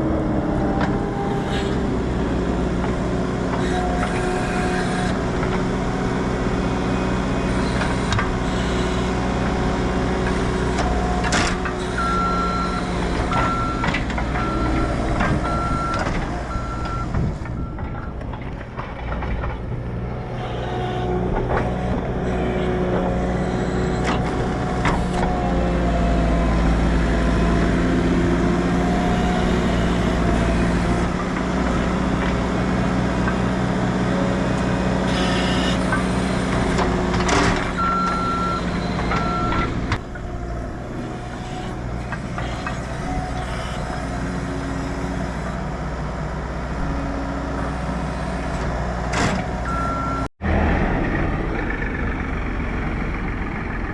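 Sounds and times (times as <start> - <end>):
tractor engine under load: 0.0 - 53.9.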